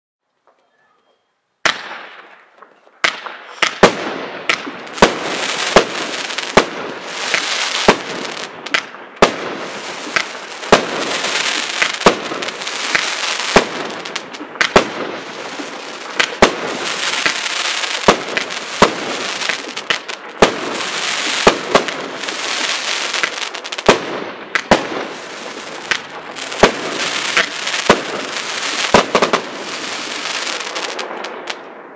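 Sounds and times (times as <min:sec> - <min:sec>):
fireworks bangs: 0:01.6 - 0:31.9
fireworks hiss and crackle: 0:01.8 - 0:31.9.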